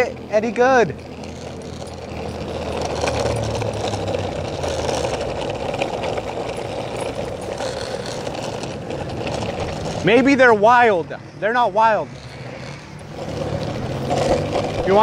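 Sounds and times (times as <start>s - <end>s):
wheels rolling over asphalt: 0.0s - 15.0s.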